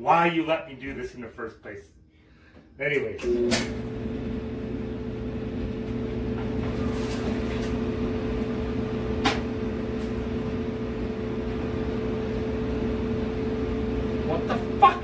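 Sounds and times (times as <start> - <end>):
clothes dryer humming: 2.3 - 15.0.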